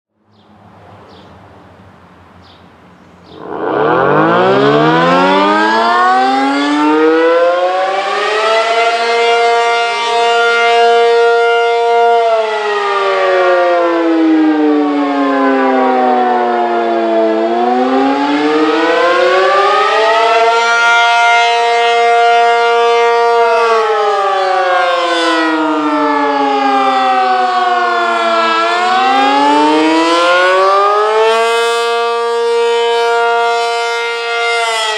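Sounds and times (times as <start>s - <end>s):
tornado siren wailing: 3.3s - 34.9s.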